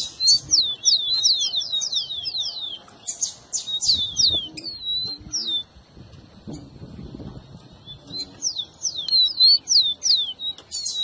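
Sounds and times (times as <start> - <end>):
sparrow singing whistled notes: 0.0 - 5.8, 7.4 - 11.0.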